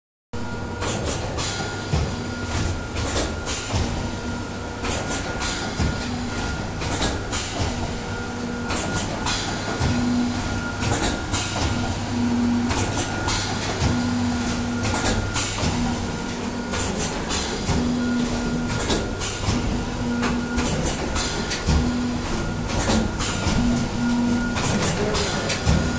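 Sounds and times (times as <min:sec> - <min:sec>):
machine motor hum: 0:00.4 - 0:25.9.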